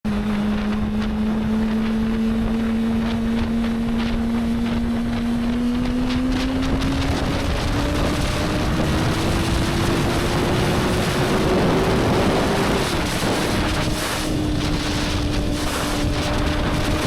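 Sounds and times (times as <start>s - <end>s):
motorcycle engine accelerating: 0.0s - 17.0s
wind rushing over microphone: 0.0s - 17.0s.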